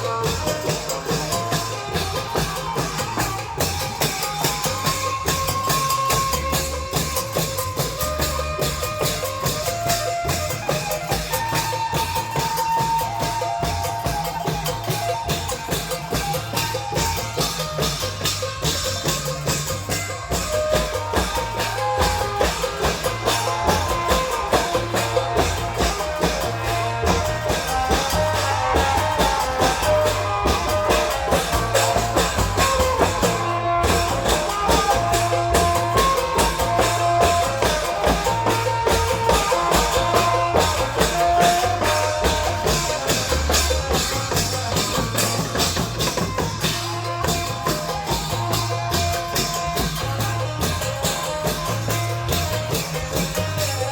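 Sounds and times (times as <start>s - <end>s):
drum band playing: 0.0s - 53.9s.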